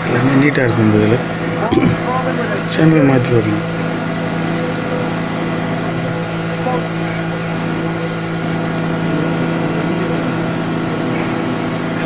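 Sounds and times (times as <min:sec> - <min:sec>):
television hum: 0:00.0 - 0:12.0.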